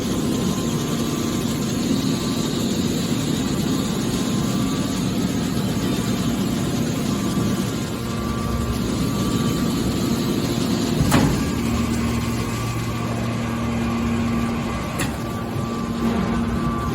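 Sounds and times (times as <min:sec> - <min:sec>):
hydraulic baler motor hum: 0:00.0 - 0:16.9.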